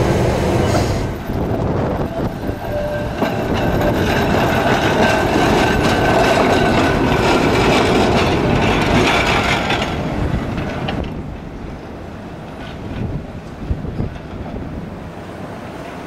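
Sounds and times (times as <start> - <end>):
tram running on rails: 0.0 - 16.0.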